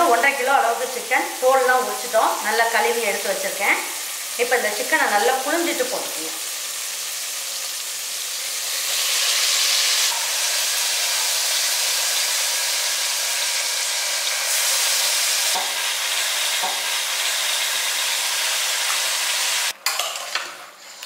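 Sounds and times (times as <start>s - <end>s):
oil sizzling in a pot: 0.0s - 21.0s.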